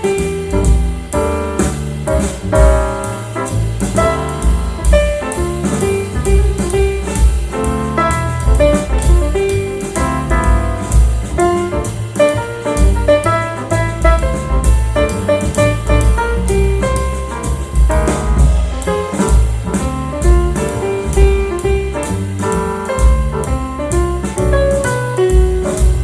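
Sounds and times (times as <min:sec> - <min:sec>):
drums keeping steady beat: 0:00.0 - 0:26.0
piano: 0:00.0 - 0:26.0.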